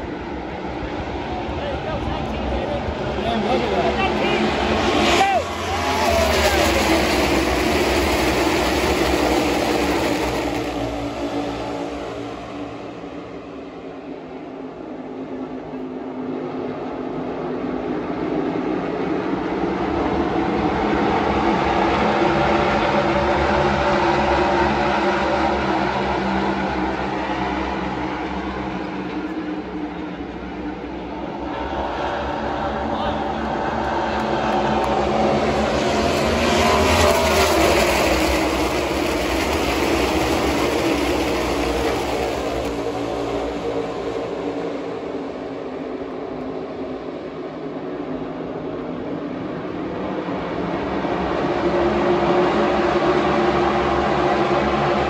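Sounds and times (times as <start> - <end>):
race truck engines rumbling: 0.0 - 55.0.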